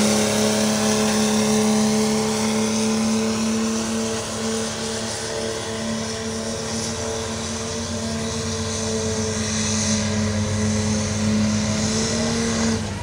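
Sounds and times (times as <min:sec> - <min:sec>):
diesel engine running hard: 0:00.0 - 0:13.0.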